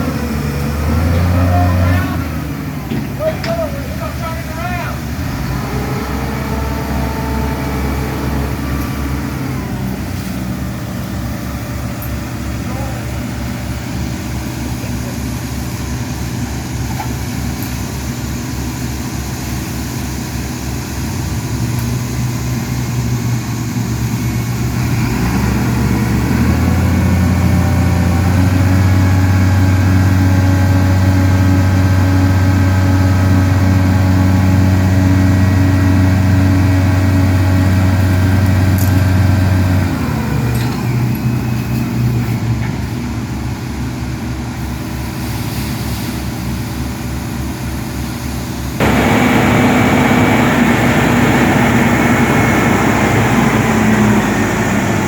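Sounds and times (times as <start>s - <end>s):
lift engine idling and revving: 0.0s - 55.0s.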